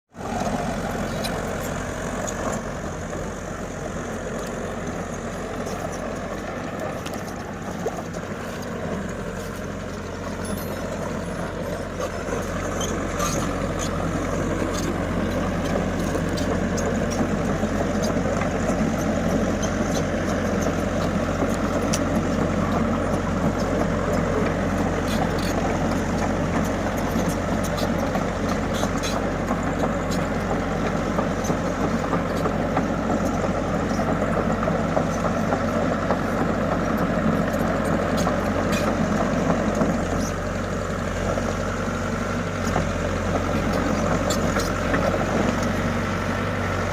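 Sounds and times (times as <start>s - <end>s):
excavator diesel engine running: 0.1s - 46.9s.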